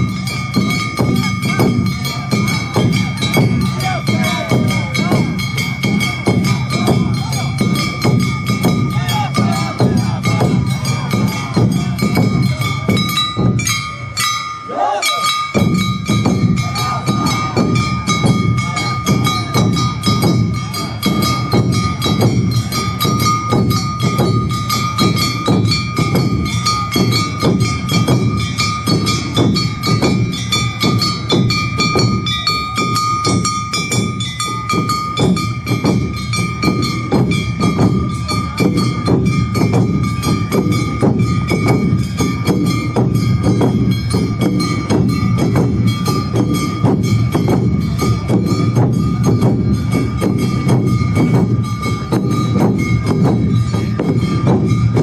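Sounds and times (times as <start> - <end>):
gongs clanging: 0.0 - 55.0
taiko drums beating: 0.0 - 55.0.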